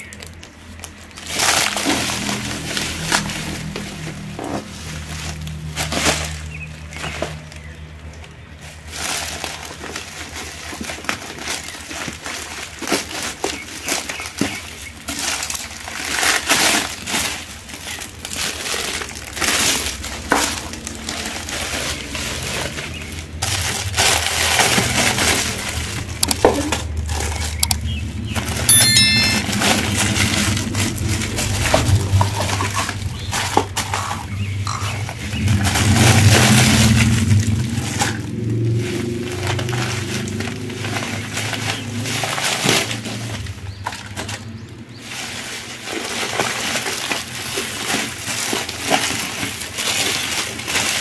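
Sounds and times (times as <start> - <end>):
plastic wrapping crinkling: 0.0 - 28.0, 28.8 - 51.0.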